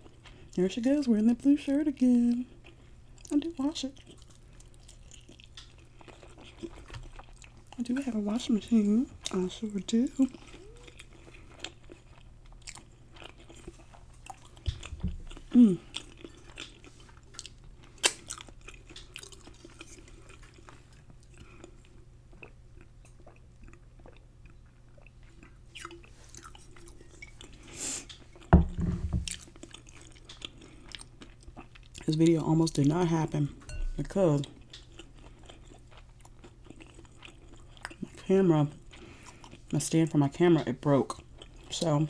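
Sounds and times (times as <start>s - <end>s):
chewing and crunching food: 0.0s - 28.5s, 29.1s - 42.0s.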